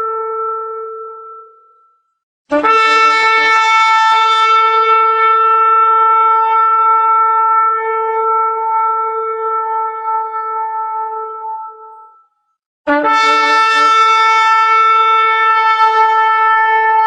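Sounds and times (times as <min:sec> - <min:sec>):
shofar blast: 0:00.0 - 0:01.9, 0:02.5 - 0:12.2, 0:12.9 - 0:17.0.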